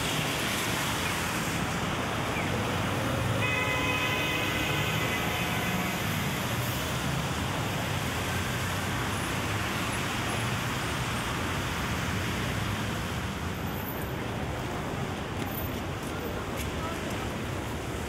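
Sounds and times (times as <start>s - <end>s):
traffic: 0.0s - 18.0s.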